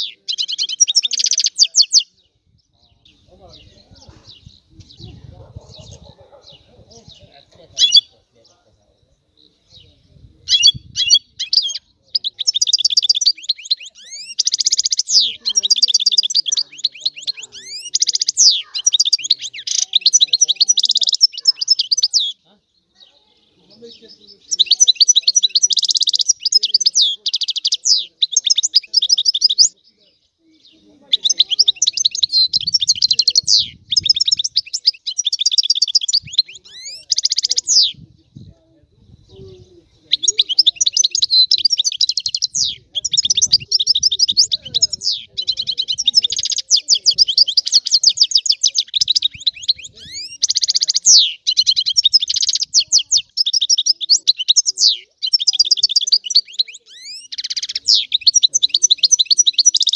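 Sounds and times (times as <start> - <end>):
bird singing fast twitters: 0.0 - 59.9.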